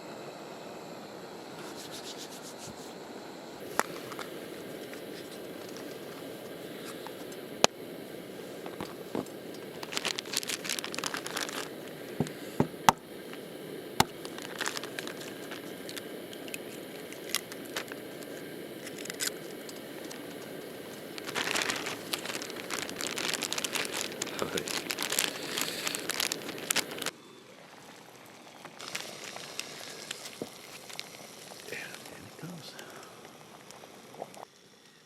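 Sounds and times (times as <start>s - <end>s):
campfire crackling and popping: 3.6s - 27.1s, 27.7s - 35.0s.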